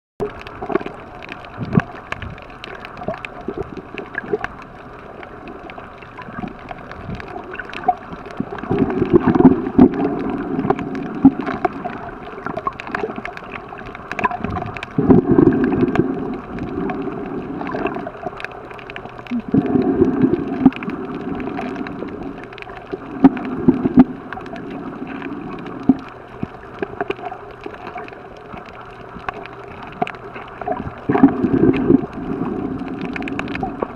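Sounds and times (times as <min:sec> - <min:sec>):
muffled underwater gurgling and swishing: 0:00.2 - 0:33.9.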